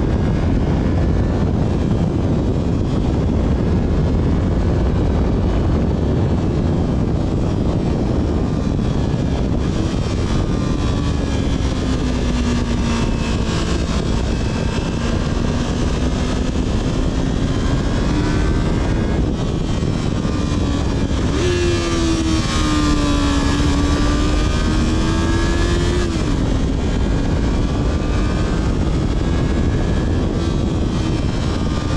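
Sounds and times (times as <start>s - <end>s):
motorcycle engine drone: 0.0s - 31.9s
wind and road noise: 0.0s - 31.9s.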